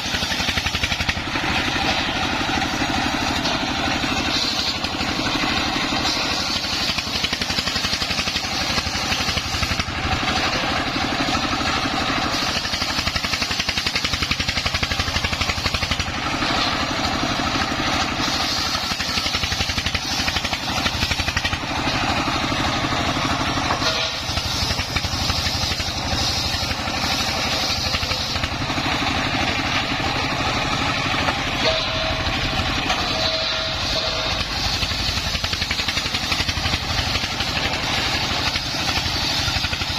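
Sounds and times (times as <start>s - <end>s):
circular saw cutting timber: 0.0s - 39.9s
diesel engine running: 0.0s - 39.9s.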